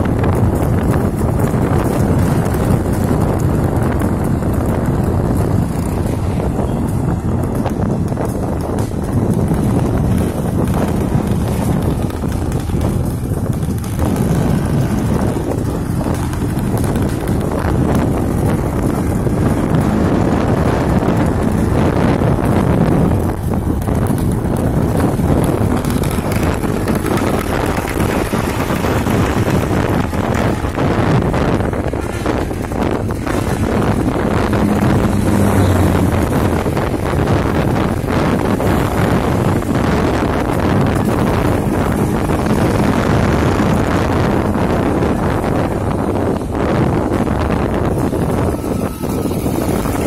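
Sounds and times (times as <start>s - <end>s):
scooter engine running: 0.0s - 50.0s
wind rushing over microphone: 0.0s - 50.0s.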